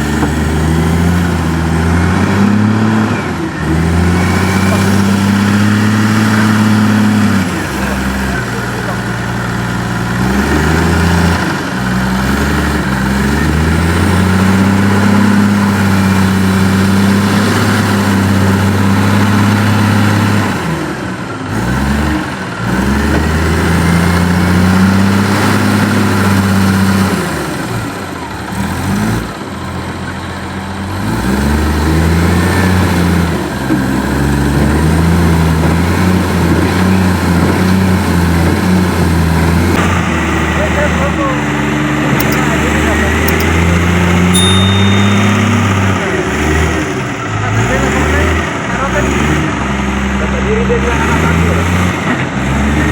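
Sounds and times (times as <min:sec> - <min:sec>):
diesel engine running under load: 0:00.0 - 0:52.9.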